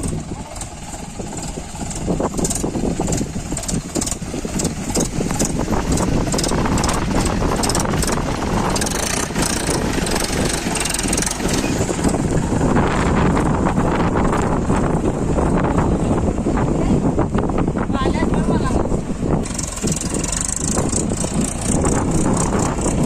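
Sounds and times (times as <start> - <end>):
high clicking rattle: 0.0 - 15.6, 19.2 - 23.0
tractor diesel engine rumbling: 0.0 - 23.0.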